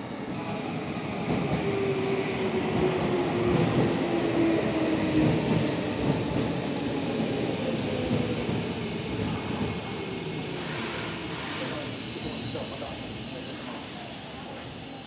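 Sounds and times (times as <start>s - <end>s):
train wheels rumbling on rails: 0.5s - 14.7s.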